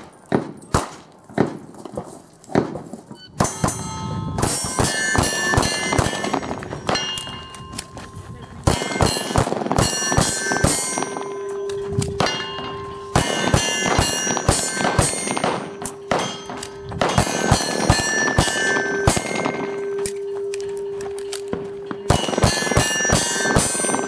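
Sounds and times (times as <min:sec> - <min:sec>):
steel plates ringing: 0:03.3 - 0:24.0.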